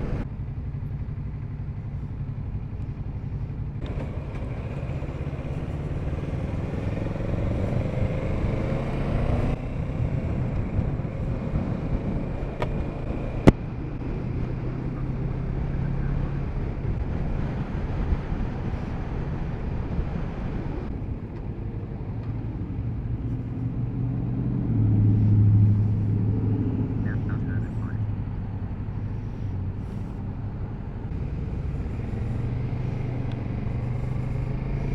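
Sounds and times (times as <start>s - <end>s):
rushing wind: 0.0s - 1.0s, 1.8s - 34.9s
motorcycle engine running: 0.0s - 34.9s.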